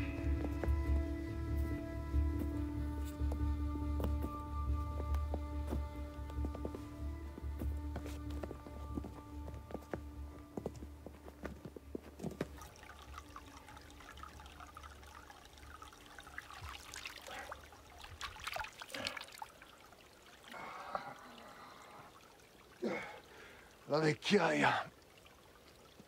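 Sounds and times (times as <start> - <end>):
water trickling in stream: 0.0 - 26.0.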